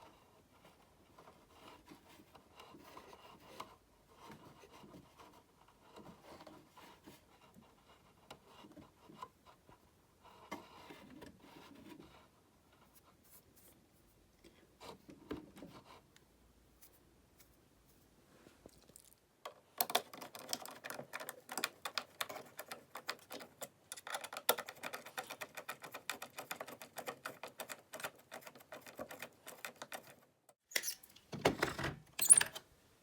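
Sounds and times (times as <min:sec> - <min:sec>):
hands rubbing and scraping parts: 0:00.0 - 0:31.2.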